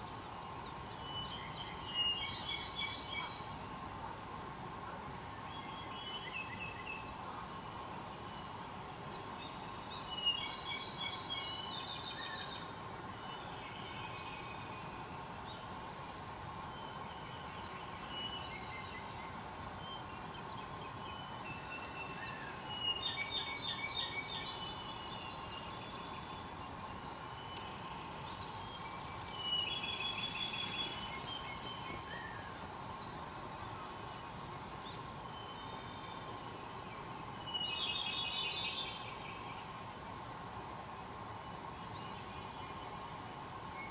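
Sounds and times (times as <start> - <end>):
songbirds singing and calling: 0.0 - 3.8, 5.3 - 39.9.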